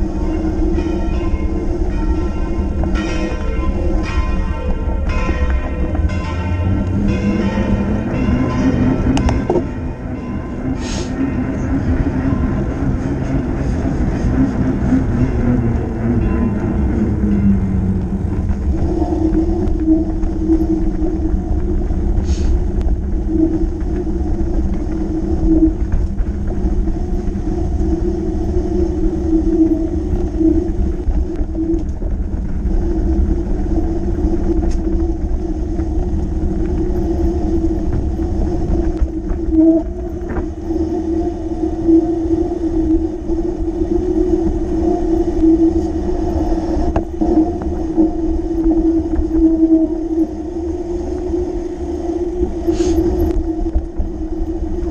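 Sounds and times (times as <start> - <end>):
constant hum: 0.0 - 54.9
wind and tyres rumbling: 0.0 - 54.9.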